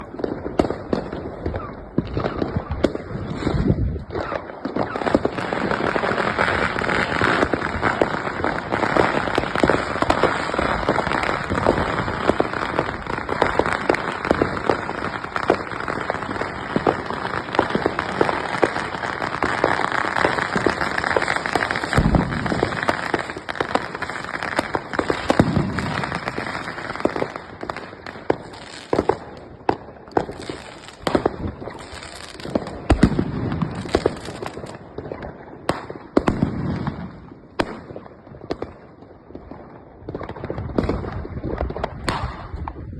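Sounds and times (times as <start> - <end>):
deep firework booms: 0.0 - 24.0, 24.6 - 38.6, 40.1 - 42.9
firecrackers crackling: 0.0 - 42.9.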